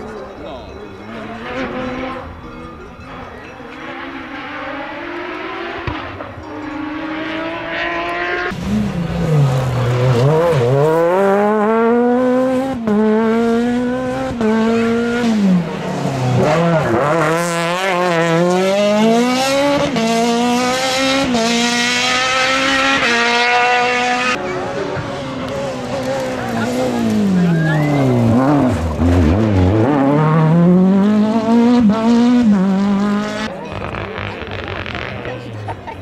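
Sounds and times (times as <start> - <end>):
rally car engine at full throttle: 0.0 - 36.0.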